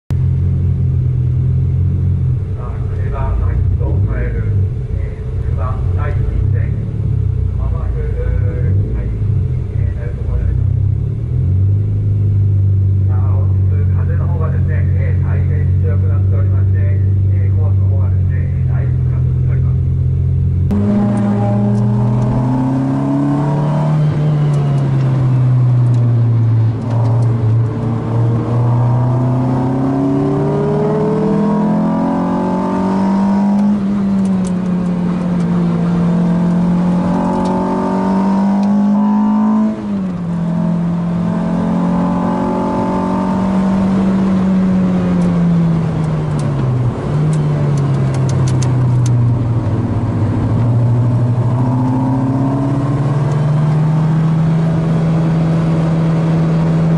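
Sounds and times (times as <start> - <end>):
race car engine revving: 0.2 - 56.9.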